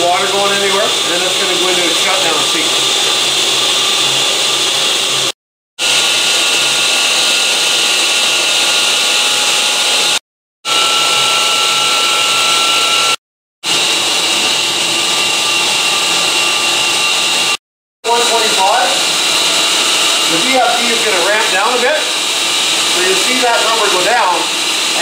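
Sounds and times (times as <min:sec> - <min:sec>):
electric pump motor whirring: 0:00.0 - 0:25.0.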